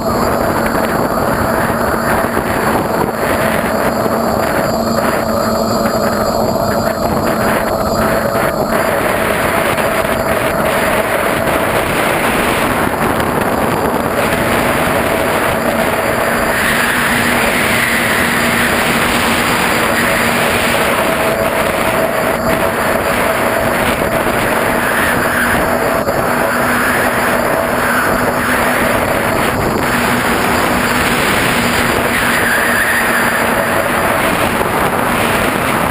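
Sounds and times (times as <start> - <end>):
quadcopter motors whirring: 0.0 - 35.9.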